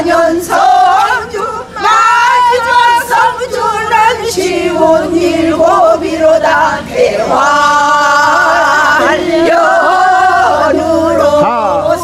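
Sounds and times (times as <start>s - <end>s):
women singing in unison: 0.0s - 12.0s.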